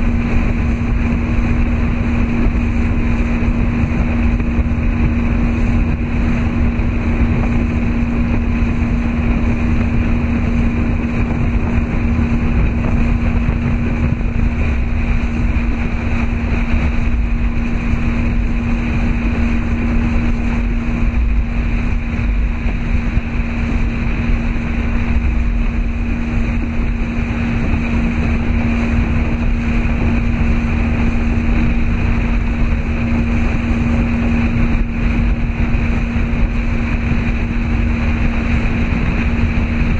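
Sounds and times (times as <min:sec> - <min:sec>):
motorboat engine hum: 0:00.0 - 0:39.9
water noise: 0:00.0 - 0:39.9
wind noise: 0:00.0 - 0:39.9.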